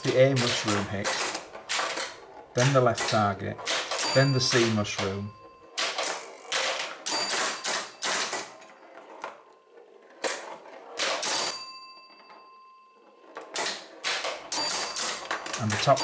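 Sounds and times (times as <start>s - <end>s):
pinball bell ringing: 0.0s - 16.0s
pinball relays clattering: 0.0s - 16.0s.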